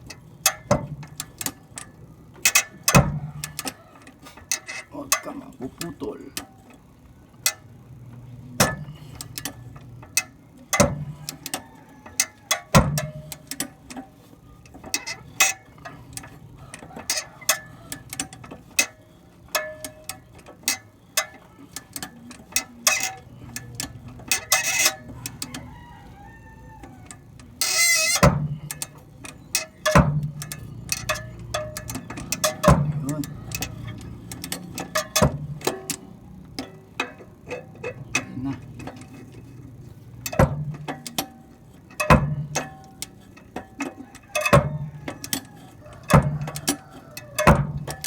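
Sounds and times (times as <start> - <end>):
ratchet metallic clicks: 0.0 - 48.0.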